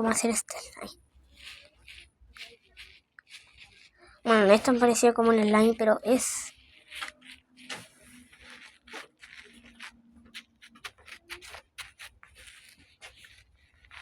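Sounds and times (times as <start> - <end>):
faint rustles and clicks: 0.0 - 14.0.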